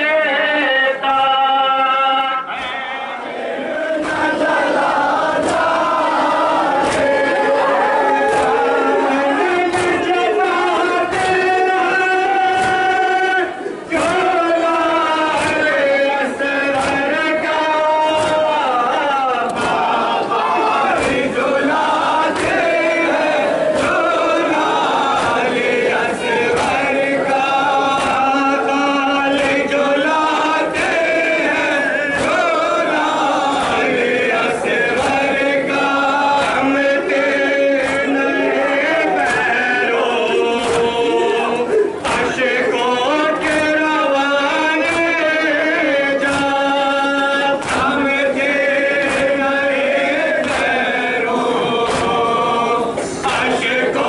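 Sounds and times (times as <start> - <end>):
men chanting a lament: 0.0 - 54.0
sharp steady beat: 4.0 - 43.8, 44.7 - 53.6.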